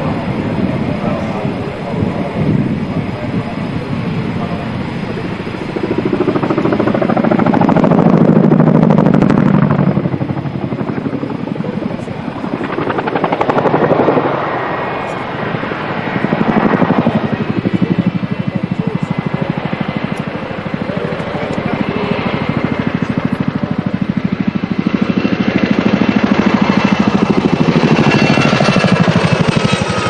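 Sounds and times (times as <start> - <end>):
helicopter rotor chop: 0.0 - 30.0.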